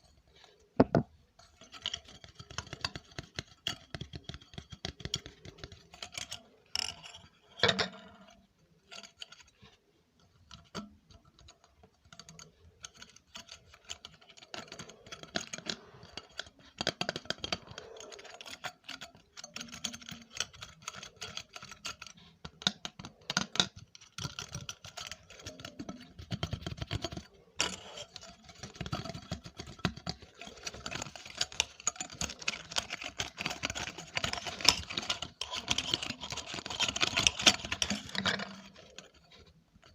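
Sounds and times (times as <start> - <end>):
light rapid tapping and clicking: 1.4 - 6.4, 10.5 - 39.9.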